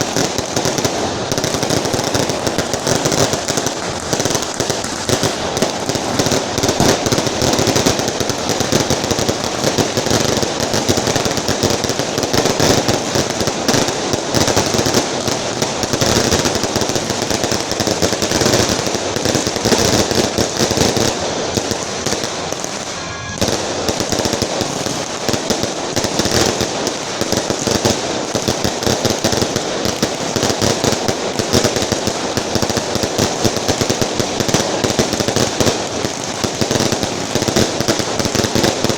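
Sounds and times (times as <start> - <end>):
firecrackers crackling: 0.0 - 38.9.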